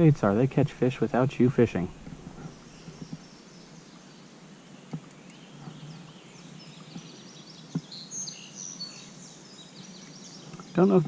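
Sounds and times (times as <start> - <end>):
low steady background noise: 0.0 - 11.0
small birds chirping: 0.0 - 11.0.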